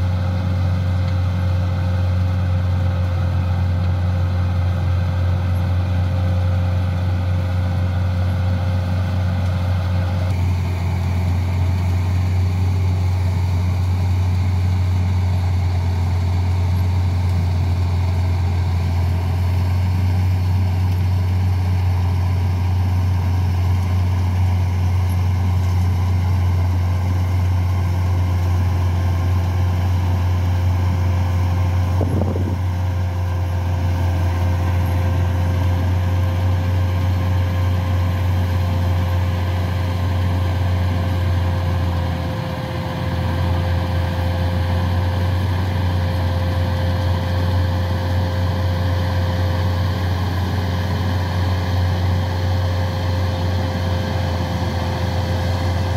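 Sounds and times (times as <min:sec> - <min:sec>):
combine harvester drone: 0:00.0 - 0:55.9
thin steady whine: 0:00.0 - 0:55.9.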